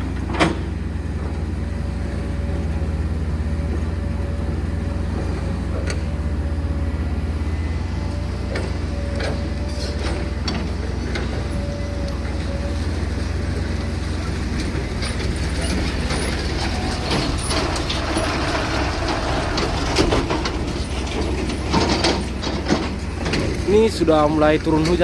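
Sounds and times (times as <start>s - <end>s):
diesel machinery rumbling: 0.0s - 25.0s.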